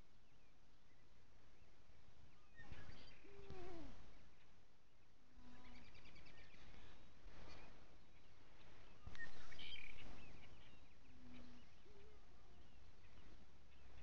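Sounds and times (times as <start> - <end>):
low steady bird call: 0.0 - 14.0
small birds chirping: 0.0 - 14.0.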